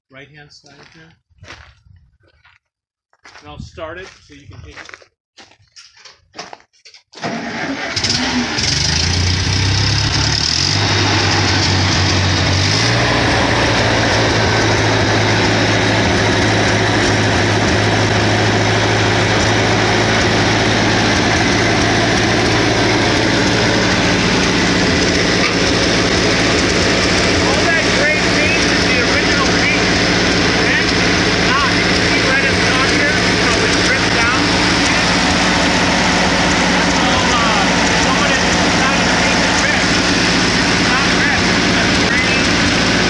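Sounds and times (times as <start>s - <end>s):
tractor engine running: 7.2s - 43.0s
tractor engine starting: 7.2s - 43.0s.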